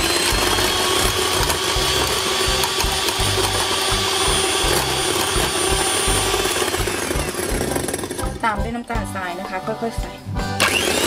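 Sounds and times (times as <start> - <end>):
electric hand mixer whining: 0.0 - 8.6, 10.5 - 11.0.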